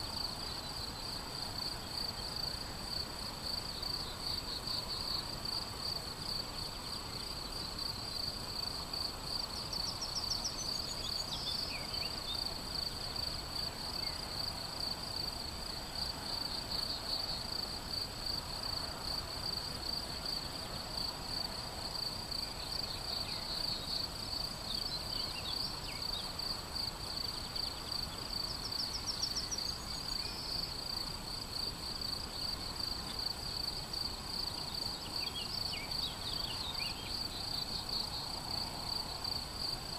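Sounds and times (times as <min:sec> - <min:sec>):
songbird singing: 0:00.0 - 0:19.6, 0:20.3 - 0:39.8
crickets chirping: 0:00.0 - 0:39.9.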